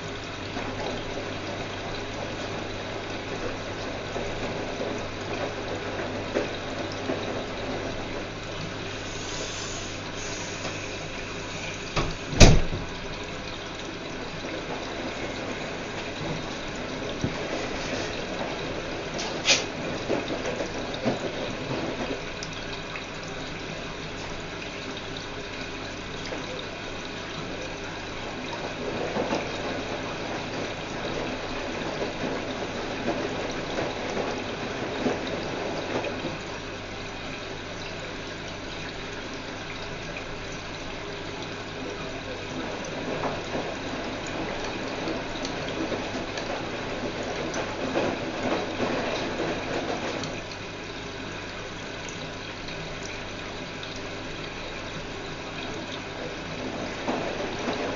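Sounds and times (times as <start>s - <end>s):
water running into washing machine: 0.0s - 57.9s.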